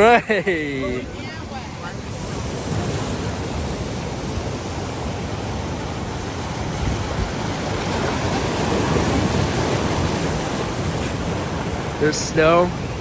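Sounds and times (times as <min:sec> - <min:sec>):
strong wind: 0:00.0 - 0:13.0
waves crashing on shore: 0:00.0 - 0:13.0.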